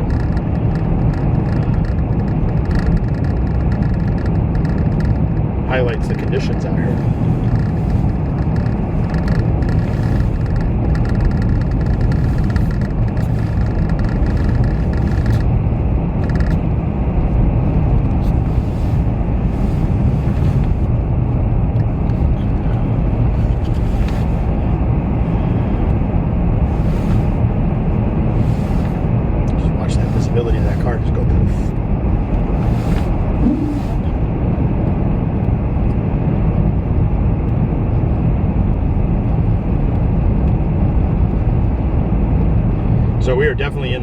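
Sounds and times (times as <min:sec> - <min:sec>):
car tyres and engine rumble: 0:00.0 - 0:44.0.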